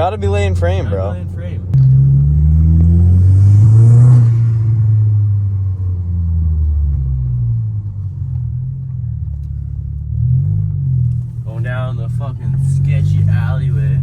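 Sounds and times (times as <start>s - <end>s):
turbocharged car engine accelerating: 0.0s - 14.0s.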